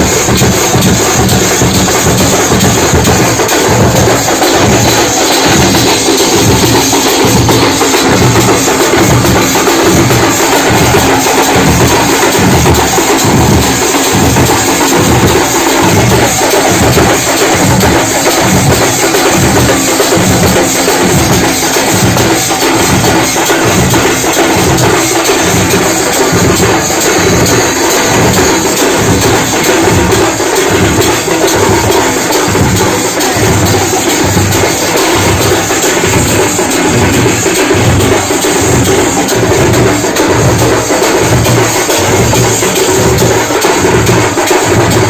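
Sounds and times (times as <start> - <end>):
bright percussion clatter: 0.0 - 45.0
drums played with sticks: 0.0 - 45.0.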